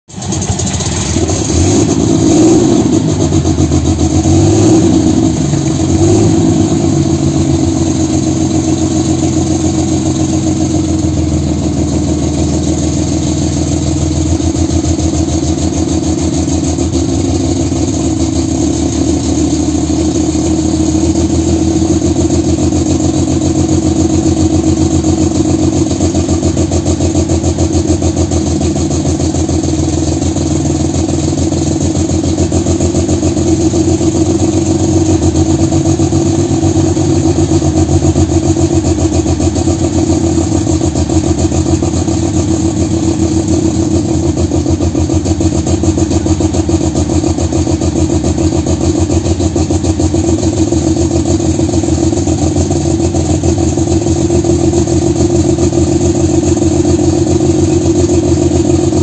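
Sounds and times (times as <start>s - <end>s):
tractor engine revving and idling: 0.1s - 59.0s.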